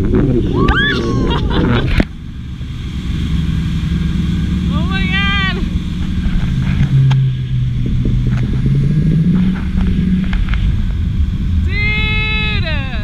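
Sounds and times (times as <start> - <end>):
steady engine hum: 0.0 - 13.0
wind rumbling on microphone: 0.0 - 13.0.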